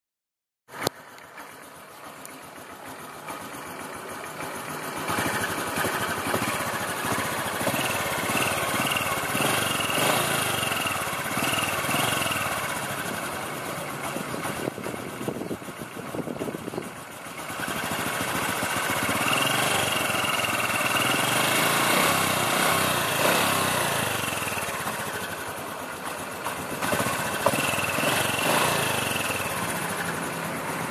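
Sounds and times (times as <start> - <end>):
motorcycle engine revving: 0.7 - 30.9.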